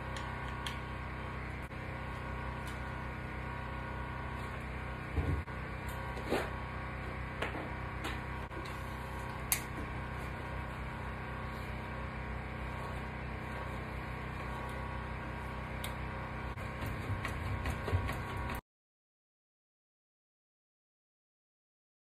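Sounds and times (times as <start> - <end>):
steady mechanical hum: 0.0 - 18.6.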